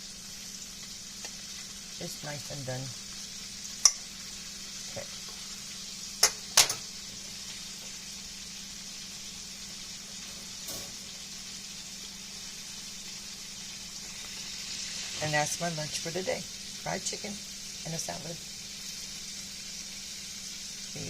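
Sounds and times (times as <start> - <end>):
chicken deep frying in oil: 0.0 - 21.0.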